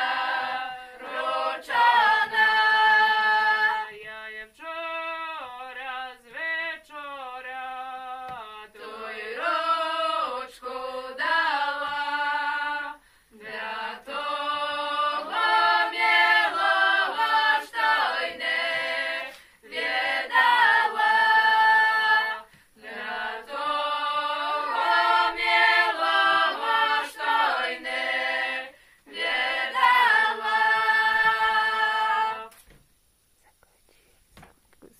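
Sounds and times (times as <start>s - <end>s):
women singing a cappella: 0.0s - 32.6s.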